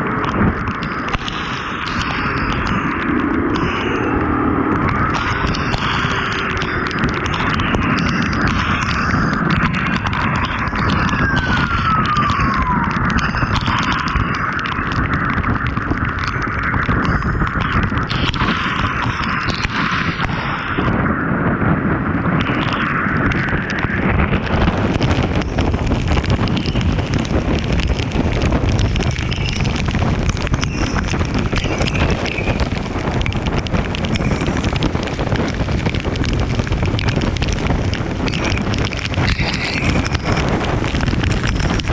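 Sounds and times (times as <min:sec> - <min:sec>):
road and engine noise: 0:00.0 - 0:18.9, 0:20.9 - 0:41.9
wind buffeting microphone: 0:00.0 - 0:41.9.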